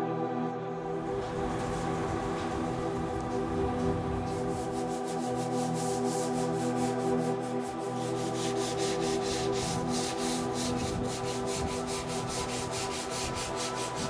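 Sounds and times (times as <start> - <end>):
background music: 0.0 - 14.0
hand sanding rasp: 2.4 - 14.0.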